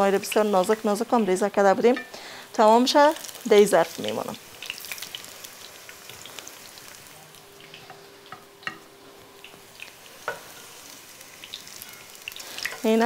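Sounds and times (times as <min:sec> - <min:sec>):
frying in oil sizzling: 0:00.0 - 0:13.0.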